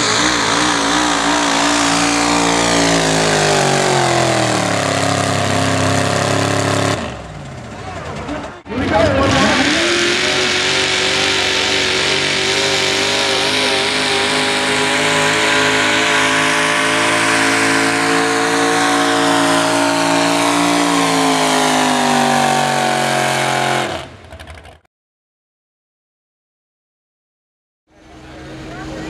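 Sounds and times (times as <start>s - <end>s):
truck engine at full throttle: 0.0s - 24.8s, 27.9s - 29.0s.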